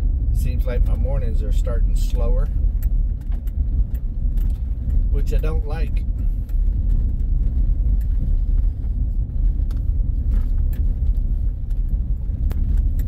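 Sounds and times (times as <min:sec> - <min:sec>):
truck rumbling on dirt road: 0:00.0 - 0:13.0.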